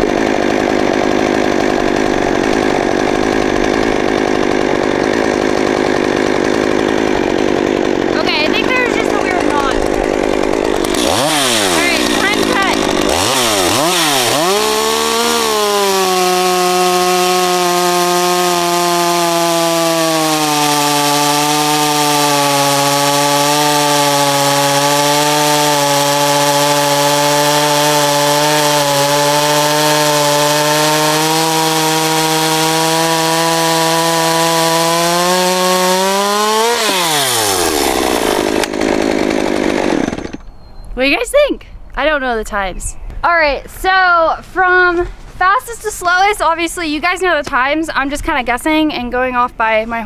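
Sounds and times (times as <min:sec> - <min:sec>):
chainsaw cutting log: 0:00.0 - 0:40.6.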